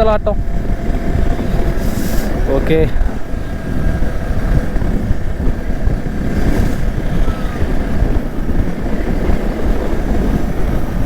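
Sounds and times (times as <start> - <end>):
motorcycle running: 0.0 - 11.0
wind rushing over microphone: 0.0 - 11.0.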